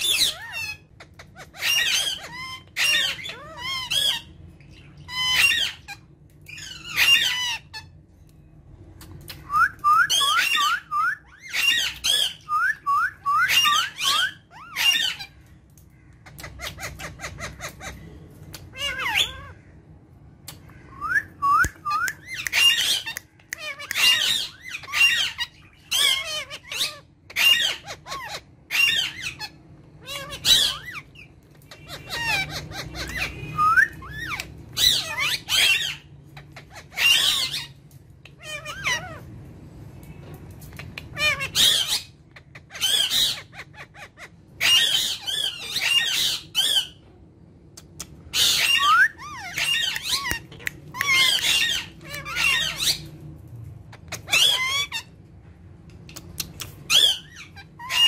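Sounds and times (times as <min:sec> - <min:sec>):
parakeets squawking: 0:00.0 - 0:08.1, 0:09.1 - 0:47.1, 0:47.8 - 0:58.0.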